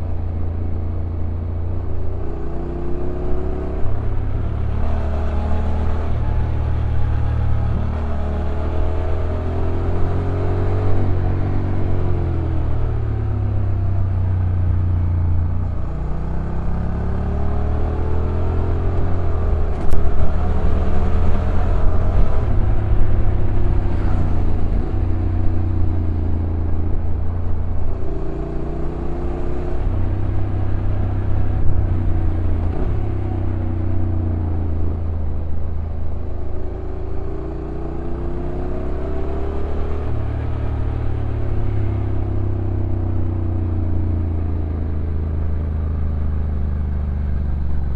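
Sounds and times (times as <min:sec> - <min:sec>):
motorcycle engine revving: 0:01.7 - 0:47.9.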